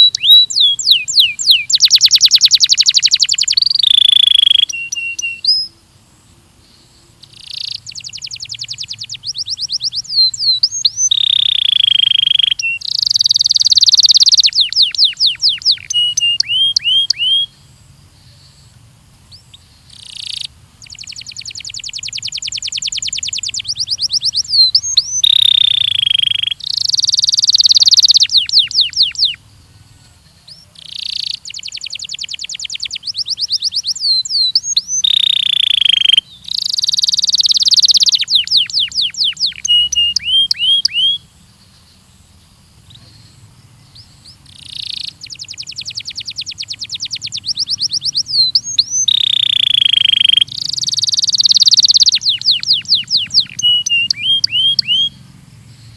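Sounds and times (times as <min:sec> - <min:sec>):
canary singing trills: 0:00.0 - 0:05.8, 0:06.6 - 0:55.9.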